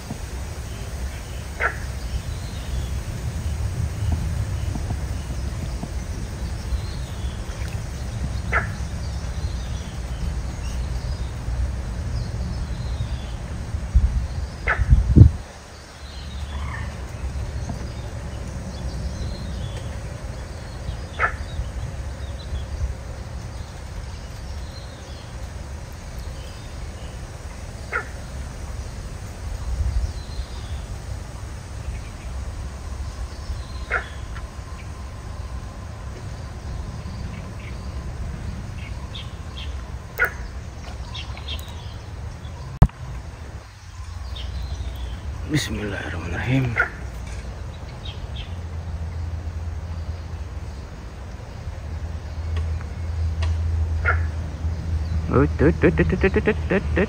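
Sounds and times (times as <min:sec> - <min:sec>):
faint birds chirping: 0:00.0 - 0:57.0
low wind rumble: 0:00.0 - 0:57.0.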